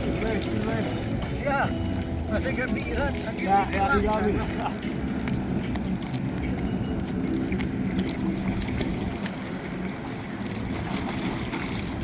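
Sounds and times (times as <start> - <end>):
boat motor hum: 0.0 - 12.0
water washing: 0.0 - 12.0.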